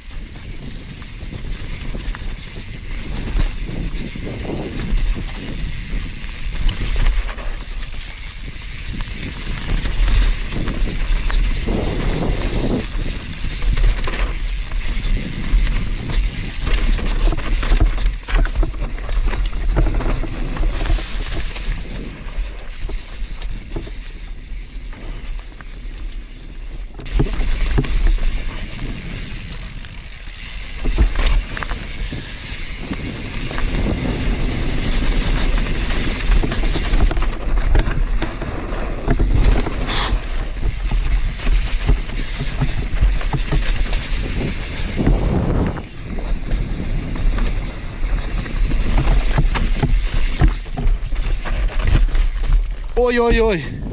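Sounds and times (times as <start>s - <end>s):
wind buffeting microphone: 0.0s - 25.3s, 25.9s - 53.9s
bike rattling over bumps: 0.0s - 53.9s
bike tyres rolling on dirt: 0.0s - 53.9s.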